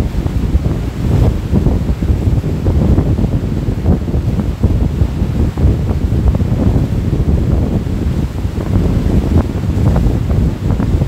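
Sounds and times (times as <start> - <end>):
water splashing against hull: 0.0 - 11.0
wind buffeting microphone: 0.0 - 11.0.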